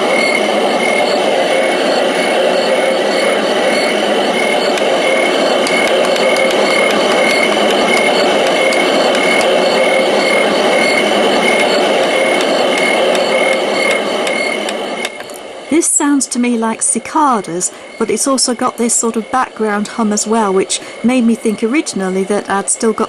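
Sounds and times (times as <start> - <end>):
insect chirping: 0.0 - 23.0
steady muffled hum: 0.0 - 23.0.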